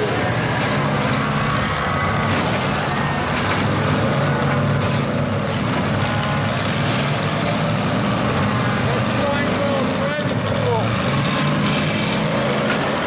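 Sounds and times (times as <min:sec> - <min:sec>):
pickup truck engines running: 0:00.0 - 0:13.0.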